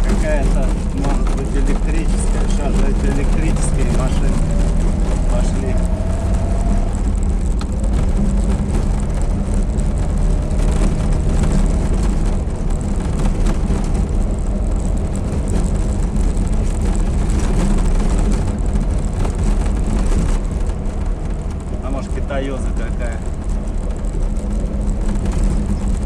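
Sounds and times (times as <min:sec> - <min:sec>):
body clicks and rattles: 0:00.0 - 0:26.0
van engine and road drone: 0:00.0 - 0:26.0.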